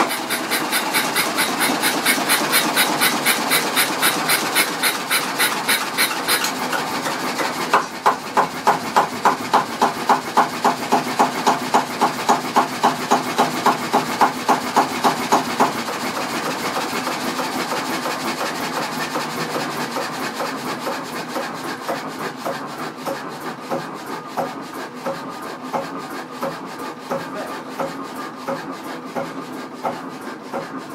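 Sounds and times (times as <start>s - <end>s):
engine running with slow firing beat: 0.0s - 30.9s.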